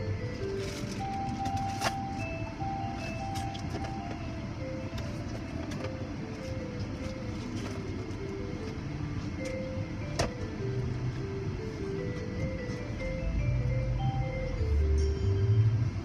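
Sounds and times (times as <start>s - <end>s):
simple melody of single notes: 0.0s - 16.0s
steady low rumble: 0.0s - 16.0s.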